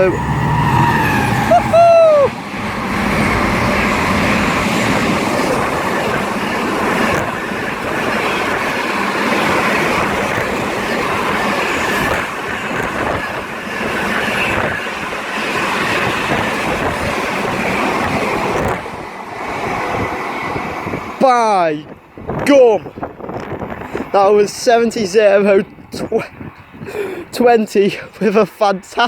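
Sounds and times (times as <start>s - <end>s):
freight train wagons rumbling: 0.0s - 29.0s.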